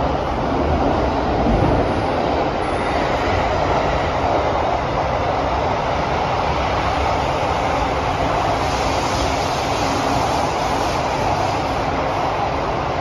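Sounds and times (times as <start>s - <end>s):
metro train rumbling in tunnel: 0.0s - 13.0s.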